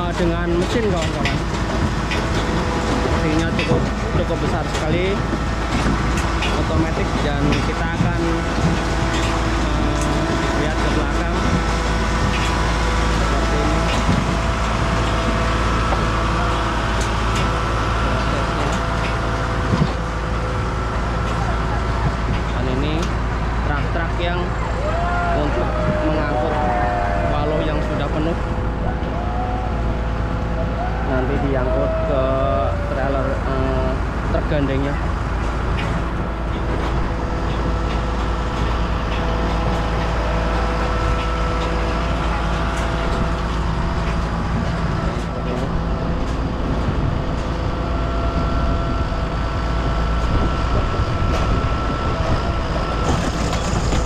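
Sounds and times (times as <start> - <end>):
harvesting machine engine humming: 0.0 - 54.0.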